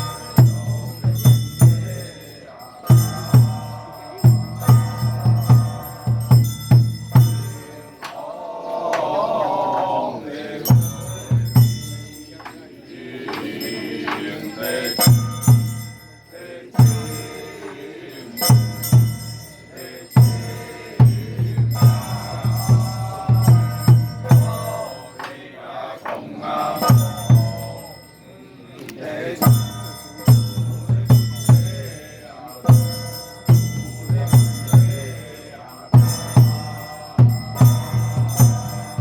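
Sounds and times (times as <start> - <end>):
metallic bell or cymbal strikes: 0.0 - 8.1, 10.6 - 25.8, 26.4 - 39.0
drum beaten in clusters: 0.0 - 28.1, 29.2 - 39.0
people chanting: 0.0 - 39.0.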